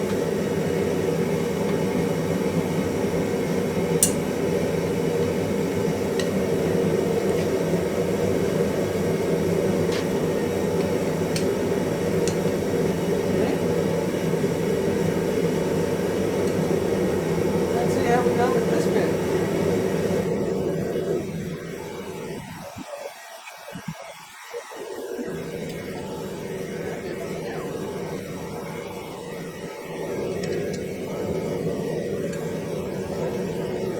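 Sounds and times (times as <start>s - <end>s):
forge fire rushing: 0.0s - 33.9s.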